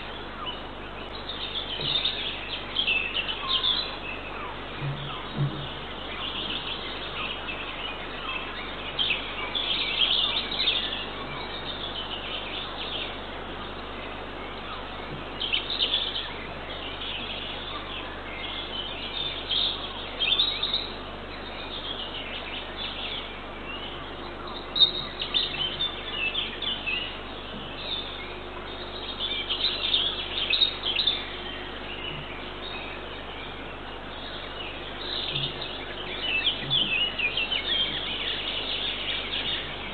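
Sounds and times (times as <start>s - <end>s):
small birds chirping and singing: 0.0s - 39.9s
steady microphone hiss: 0.0s - 39.9s.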